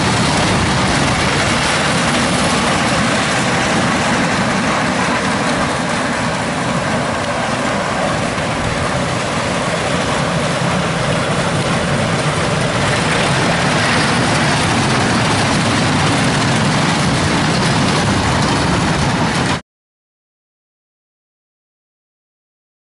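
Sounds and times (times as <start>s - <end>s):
small train rumbling and rattling: 0.0s - 19.6s.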